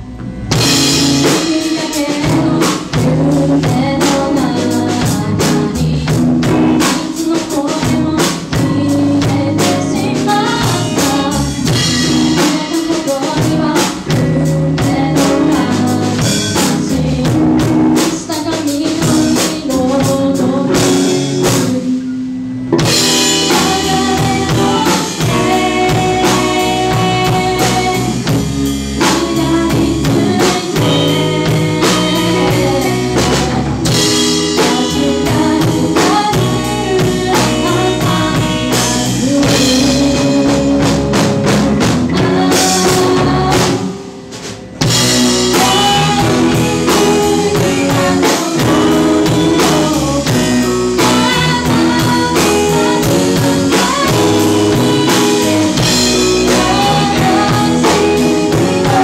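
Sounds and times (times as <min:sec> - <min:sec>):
drum kit: 0:00.0 - 0:59.0
electric bass: 0:00.0 - 0:59.0
electric guitar: 0:00.0 - 0:59.0
woman singing: 0:00.6 - 0:22.2, 0:22.8 - 0:44.1, 0:44.9 - 0:59.0.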